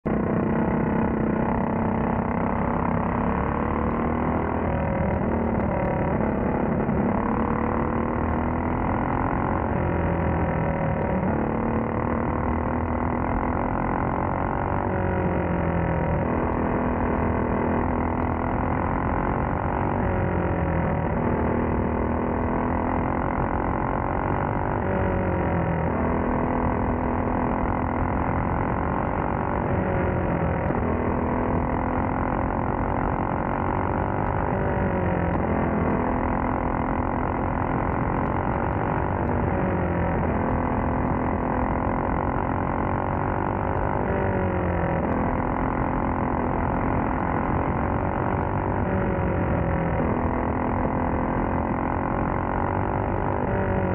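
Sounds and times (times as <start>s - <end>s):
racing kart engine revving: 0.1s - 53.9s.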